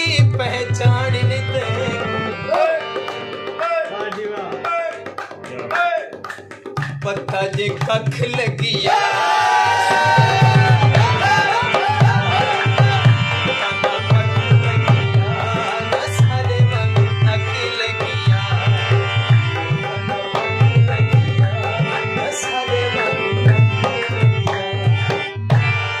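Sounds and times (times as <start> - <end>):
dholak drum rhythm: 0.0 - 26.0
harmonium playing chords: 0.0 - 26.0.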